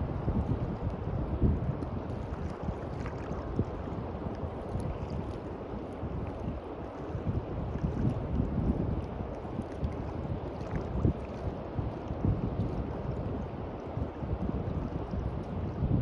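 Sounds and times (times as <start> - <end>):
sea waves washing onto beach: 0.0 - 16.0
wind buffeting microphone: 0.0 - 16.0.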